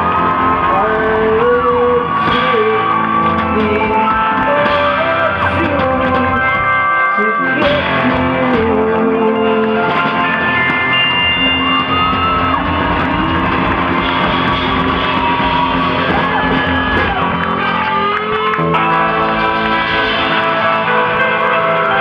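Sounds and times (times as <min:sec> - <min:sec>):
live rock band playing loudly: 0:00.0 - 0:22.0.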